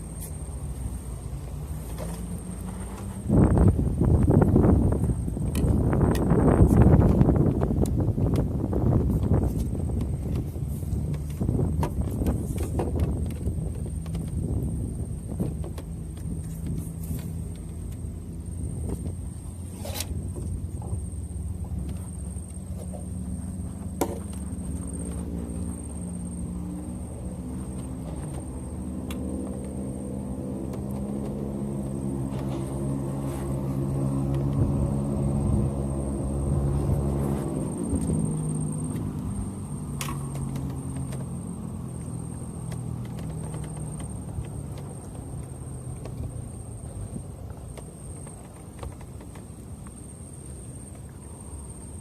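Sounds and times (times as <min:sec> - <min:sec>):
engine running: 0:00.0 - 0:52.0
high whine: 0:00.0 - 0:52.0.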